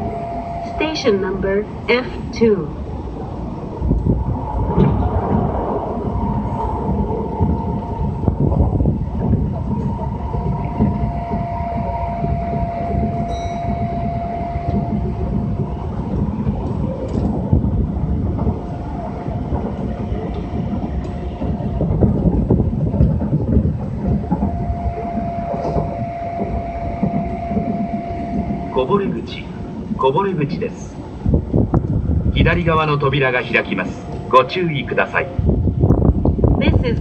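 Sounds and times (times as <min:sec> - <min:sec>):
thin steady whine: 0:00.0 - 0:37.0
train wheels rumbling on rails: 0:00.0 - 0:37.0.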